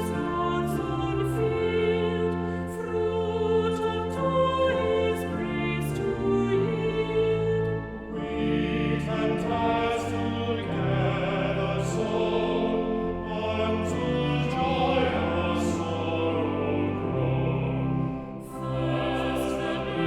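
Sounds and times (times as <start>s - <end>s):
choir singing a hymn: 0.0s - 20.0s
instrumental accompaniment: 0.0s - 20.0s.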